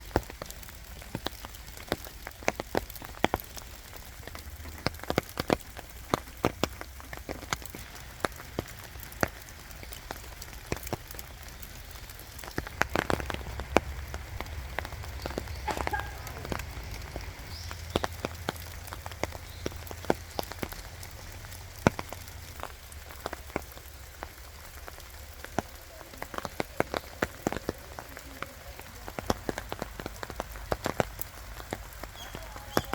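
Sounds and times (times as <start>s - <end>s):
rain drops tapping: 0.0s - 32.9s
rain hiss: 0.0s - 32.9s.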